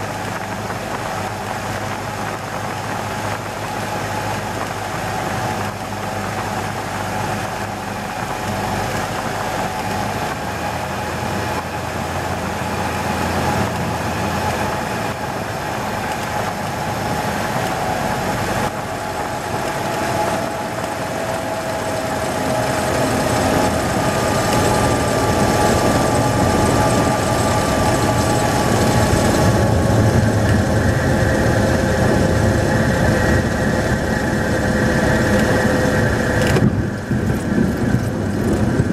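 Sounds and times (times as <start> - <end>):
airflow noise: 0.0 - 38.9
low runway rumble: 0.0 - 38.9
plane engine and propeller: 0.0 - 38.9.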